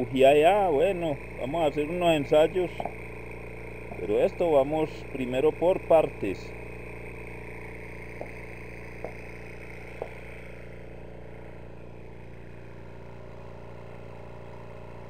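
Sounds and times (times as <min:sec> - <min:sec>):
mechanical motor drone: 0:00.0 - 0:15.0.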